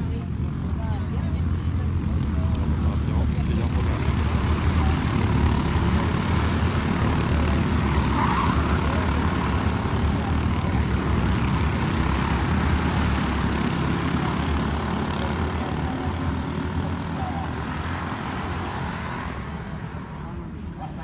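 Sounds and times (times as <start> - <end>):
kart engines droning: 0.0 - 21.0.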